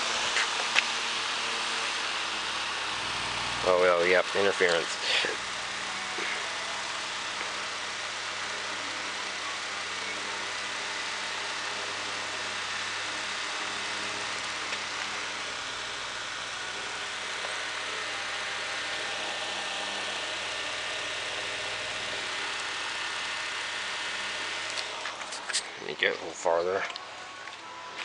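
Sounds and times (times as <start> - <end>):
transformer hum and buzz: 0.0 - 28.0.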